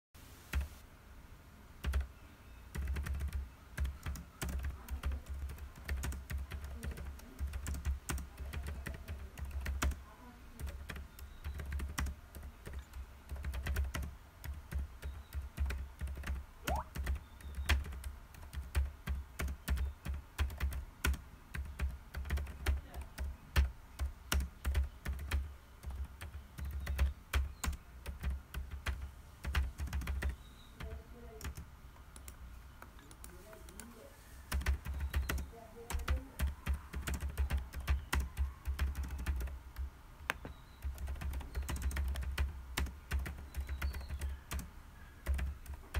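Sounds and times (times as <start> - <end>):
keyboard typing: 1.8 - 2.1, 2.7 - 10.0, 10.6 - 45.9.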